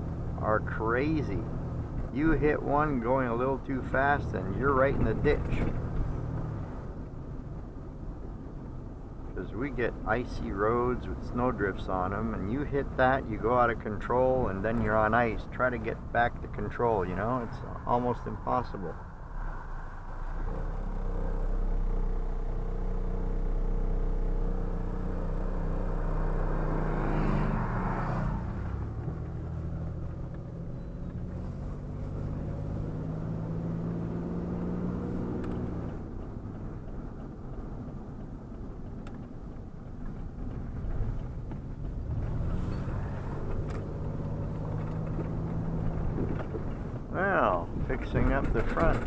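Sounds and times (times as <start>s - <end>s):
road rumble: 0.0s - 49.0s
truck engine: 0.0s - 49.0s.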